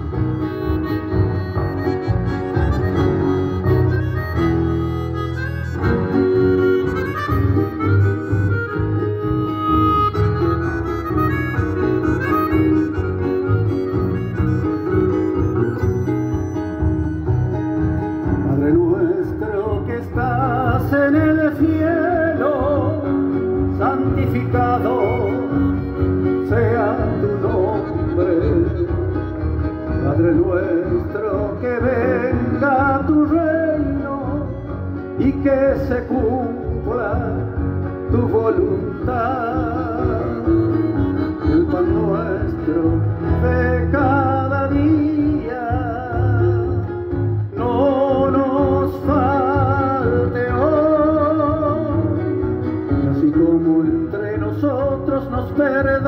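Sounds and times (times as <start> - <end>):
live folk band: 0.0 - 56.0.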